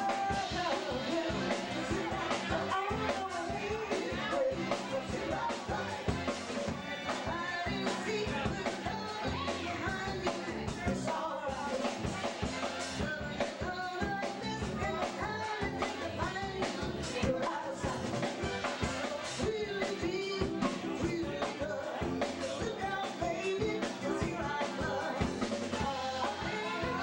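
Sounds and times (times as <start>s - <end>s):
drum kit beat: 0.0s - 27.0s
guitar: 0.0s - 27.0s
people singing: 0.0s - 27.0s.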